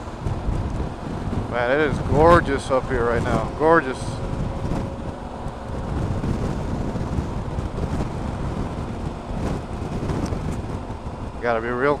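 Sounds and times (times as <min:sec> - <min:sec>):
motorcycle engine: 0:00.0 - 0:12.0
road noise: 0:00.0 - 0:12.0
wind rushing over microphone: 0:00.0 - 0:12.0.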